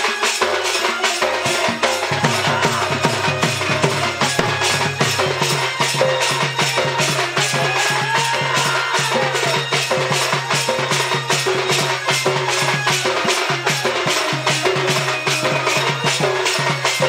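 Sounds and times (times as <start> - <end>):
fast percussion strokes: 0.0 - 17.0.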